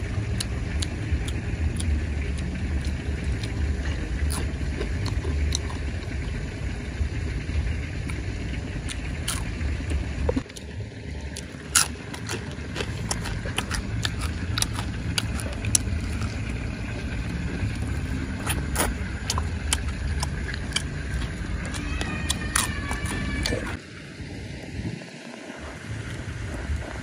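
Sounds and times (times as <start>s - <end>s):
chewing and crunching: 0.0s - 6.7s, 7.5s - 23.8s
low rumble: 0.0s - 27.0s.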